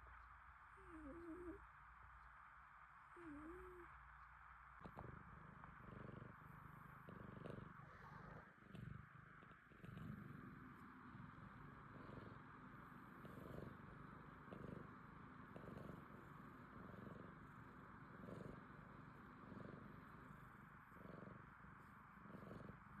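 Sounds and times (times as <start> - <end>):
cat purring faintly: 0.0 - 23.0.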